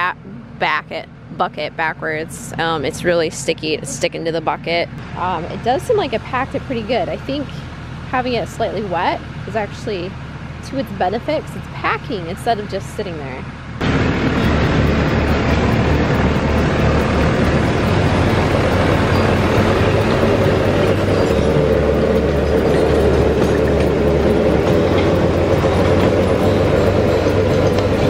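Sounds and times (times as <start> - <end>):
tractor diesel engine: 0.0 - 28.0.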